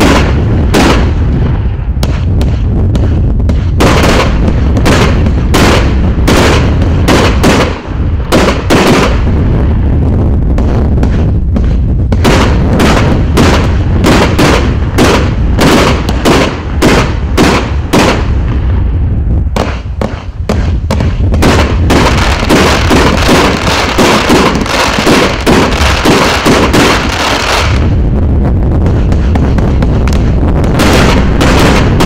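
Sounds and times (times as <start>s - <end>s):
fireworks shots and aerial bursts: 0.0s - 32.0s.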